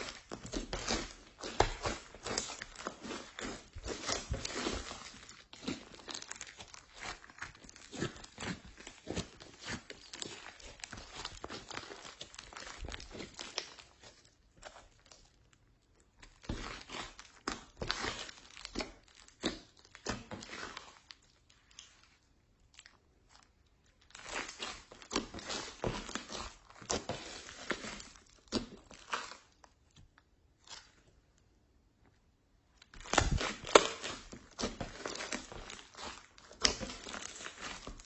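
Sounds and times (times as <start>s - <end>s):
slime sticky crackling: 0.0s - 31.4s, 32.7s - 38.0s.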